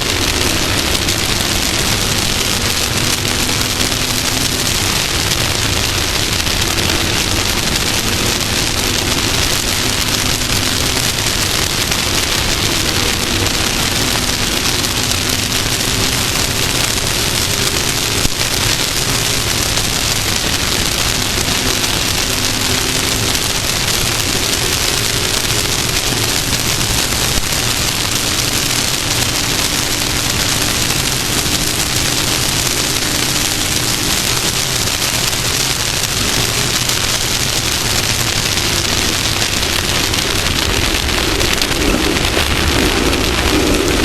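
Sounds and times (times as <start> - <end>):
race vehicle engine revving: 0.0 - 44.0.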